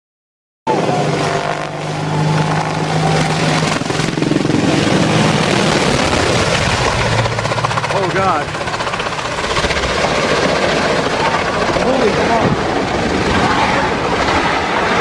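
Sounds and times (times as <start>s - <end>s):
helicopter rotor and engine: 0.7s - 15.0s.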